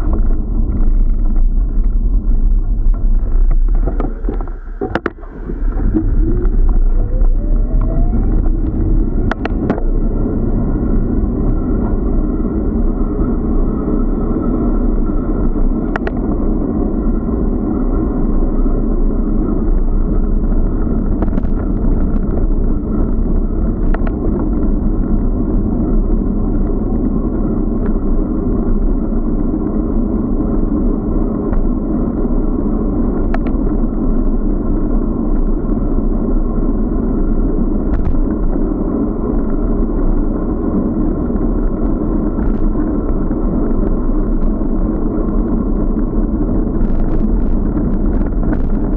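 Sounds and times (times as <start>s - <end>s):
faint clicks and bumps: 0.0s - 14.6s, 15.3s - 16.6s, 18.0s - 48.9s
bicycle rolling on road: 0.0s - 48.9s
wind buffeting microphone: 0.0s - 48.9s.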